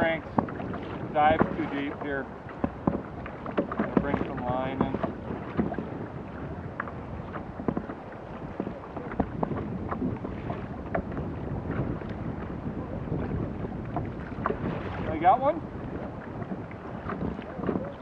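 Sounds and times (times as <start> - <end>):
water around a kayak: 0.0 - 18.0
wind buffeting microphone: 0.0 - 18.0.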